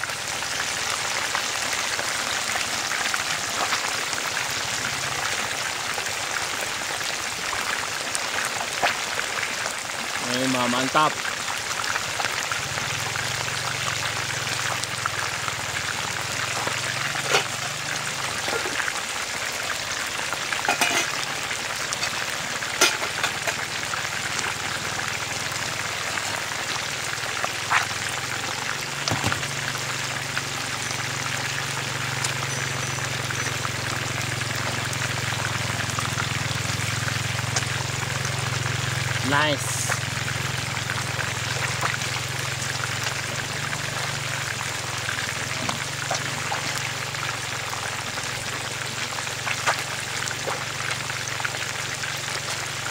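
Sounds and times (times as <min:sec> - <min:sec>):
fish frying in oil: 0:00.0 - 0:52.9.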